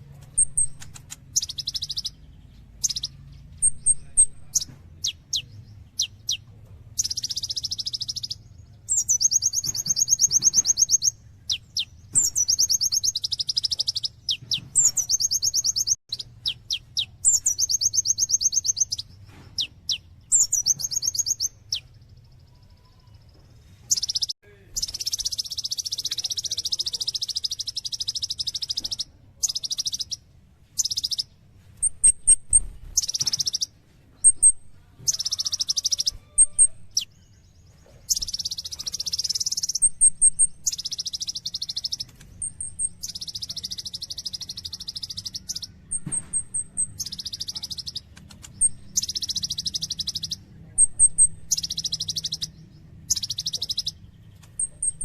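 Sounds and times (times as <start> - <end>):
bird thin high chirps: 0.1 - 55.0
bird buzzy trilling: 0.3 - 22.0, 30.8 - 37.1, 38.1 - 55.0.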